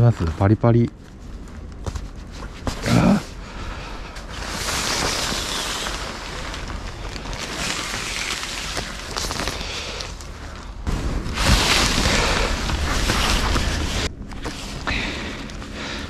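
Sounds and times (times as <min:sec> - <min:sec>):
tarp rustling and crackling: 0:00.0 - 0:16.0.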